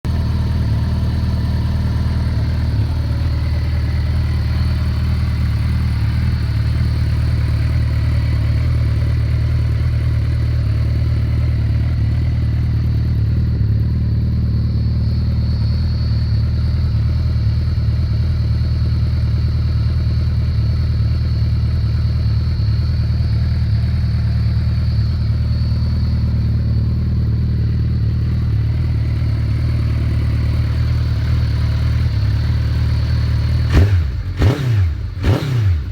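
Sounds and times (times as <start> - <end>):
motorcycle engine idling: 0.0 - 35.9.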